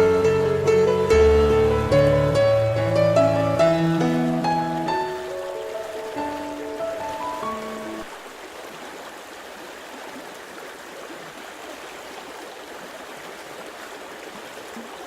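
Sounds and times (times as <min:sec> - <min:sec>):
stream running water: 0:00.0 - 0:15.0.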